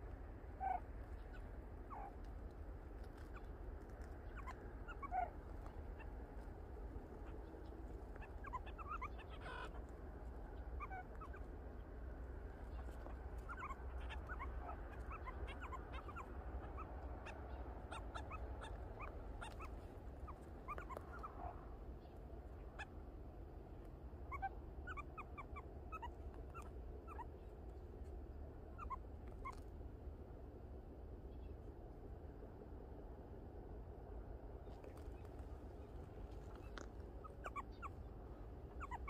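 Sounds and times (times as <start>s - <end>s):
meerkats peeping calls: 0.0s - 29.8s, 34.6s - 39.0s
steady low rumble: 0.0s - 39.0s.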